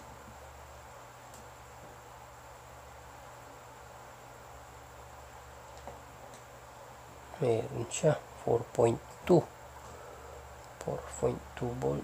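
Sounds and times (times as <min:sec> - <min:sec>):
low electrical hum: 0:00.0 - 0:12.0
steady hiss: 0:00.0 - 0:12.0.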